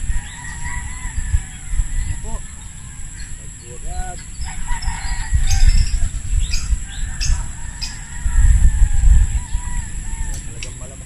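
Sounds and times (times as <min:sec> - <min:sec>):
birds squawking and chirping: 0:00.0 - 0:11.0
steady high whine: 0:00.0 - 0:11.0
wind buffeting microphone: 0:00.0 - 0:11.0.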